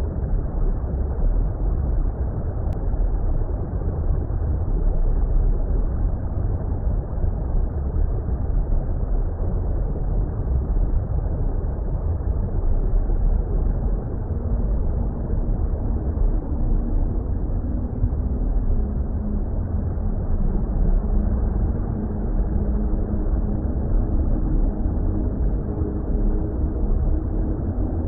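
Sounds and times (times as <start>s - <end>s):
deep muffled water rumble: 0.0s - 28.0s.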